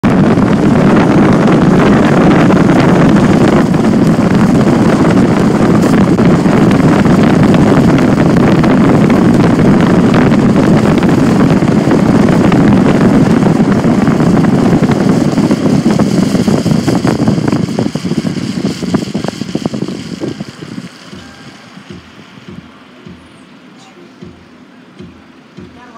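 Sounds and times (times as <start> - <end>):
wind and road rush from car: 0.0 - 23.4.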